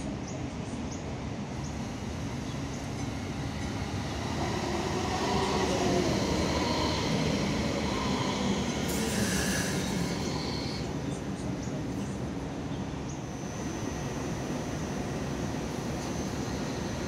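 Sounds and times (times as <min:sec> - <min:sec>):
tram running noise: 0:00.0 - 0:17.0.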